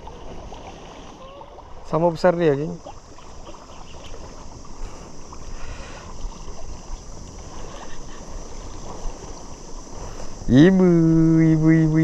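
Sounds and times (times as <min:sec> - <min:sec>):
high insect drone: 0:00.0 - 0:12.0
small waves lapping at shore: 0:00.0 - 0:12.0.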